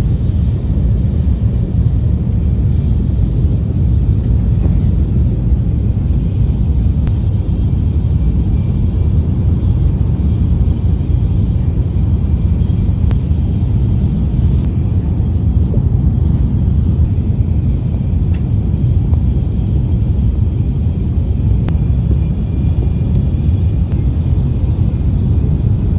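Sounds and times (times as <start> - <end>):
train running rumble: 0.0 - 25.9.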